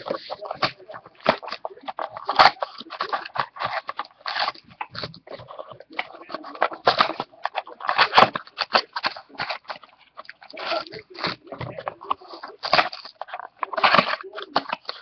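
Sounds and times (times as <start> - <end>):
plastic wrappers crinkling and tearing: 0.0 - 15.0.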